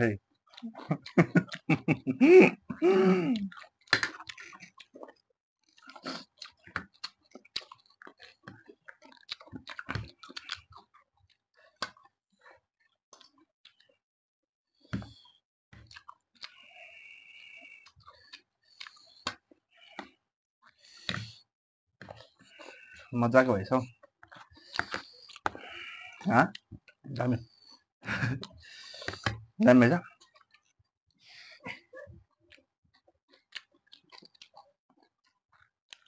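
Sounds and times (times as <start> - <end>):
wet chewing and crunching: 0.3 - 14.0, 14.8 - 23.1, 23.8 - 36.0.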